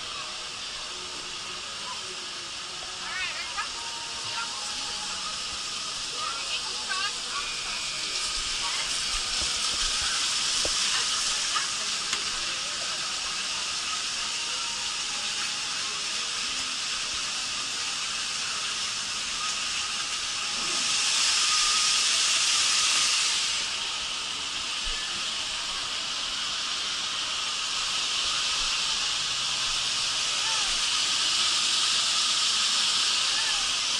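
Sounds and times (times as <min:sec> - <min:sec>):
rushing water in water slide: 0:00.0 - 0:33.9.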